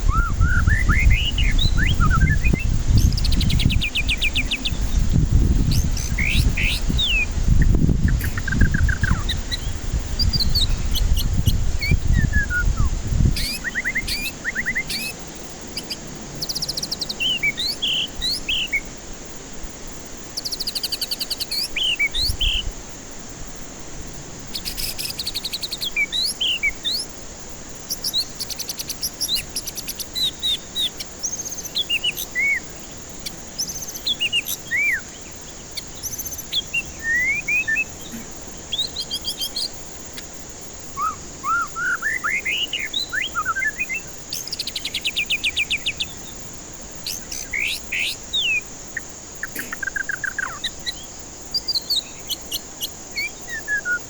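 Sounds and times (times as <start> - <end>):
songbird whistling and trilling: 0.0 - 15.2, 15.8 - 18.9, 20.4 - 22.7, 24.5 - 27.1, 27.9 - 40.3, 40.9 - 46.4, 47.0 - 48.7, 49.4 - 54.0
steady background hiss: 0.0 - 54.0.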